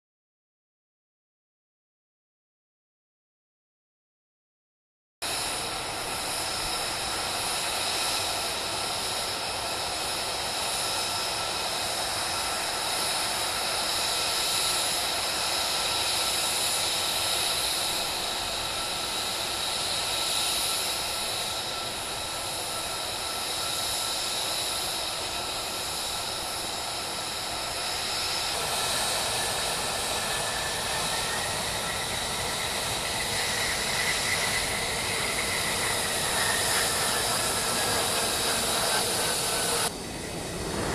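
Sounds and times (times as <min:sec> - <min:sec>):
jet engine rush and whine: 0:05.2 - 0:40.9.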